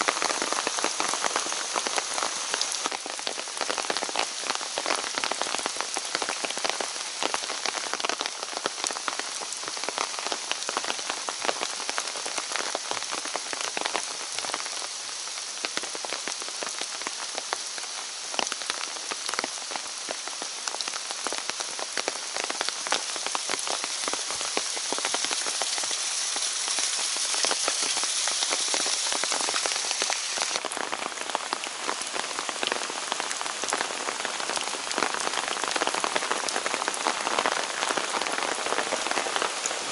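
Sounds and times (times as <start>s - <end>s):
patter of raindrops: 0.0s - 39.9s
rain falling through forest: 0.0s - 39.9s.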